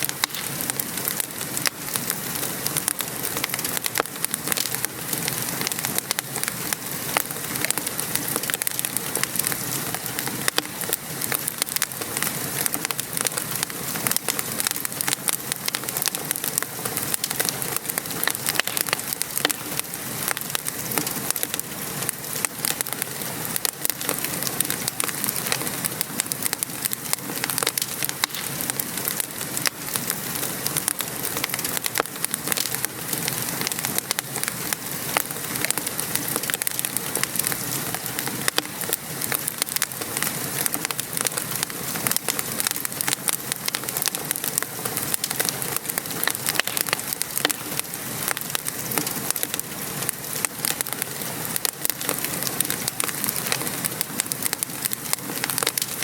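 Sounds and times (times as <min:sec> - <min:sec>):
rain patter: 0:00.0 - 0:56.0
wood fire crackling: 0:00.0 - 0:56.0.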